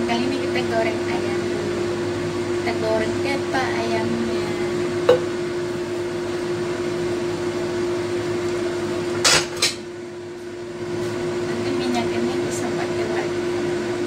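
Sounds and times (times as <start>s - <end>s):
appliance fan motor hum: 0.0s - 14.0s.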